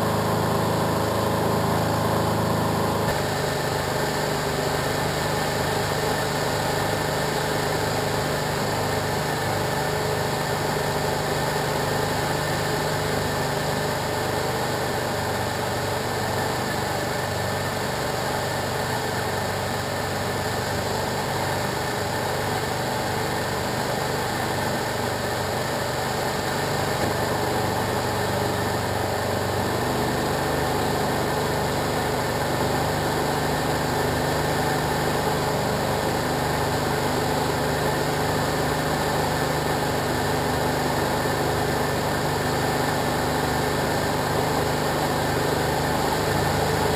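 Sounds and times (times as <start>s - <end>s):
aircraft engine and propeller running: 0.0s - 46.9s.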